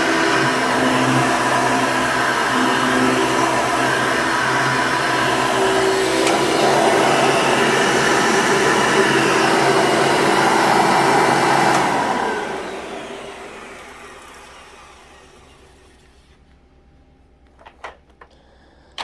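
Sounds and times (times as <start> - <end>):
vacuum cleaner running: 0.0 - 16.4.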